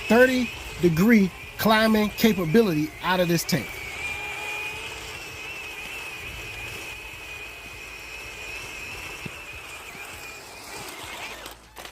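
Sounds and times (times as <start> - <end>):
electric motor whining: 0.0 - 11.9.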